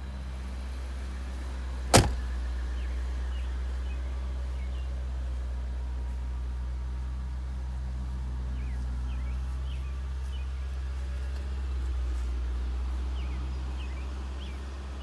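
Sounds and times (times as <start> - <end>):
car engine idling: 0.0 - 15.0
birds chirping: 2.0 - 6.6, 7.5 - 15.0.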